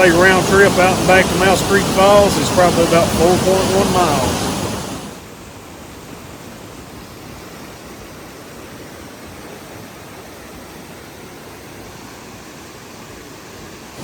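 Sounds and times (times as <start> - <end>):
waterfall rushing water: 0.0 - 14.0.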